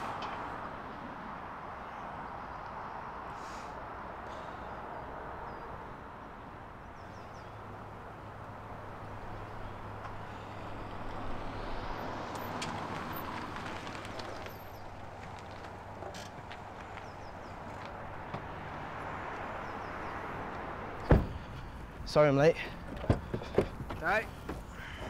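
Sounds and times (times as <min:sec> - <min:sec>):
distant road traffic: 0:00.0 - 0:25.0.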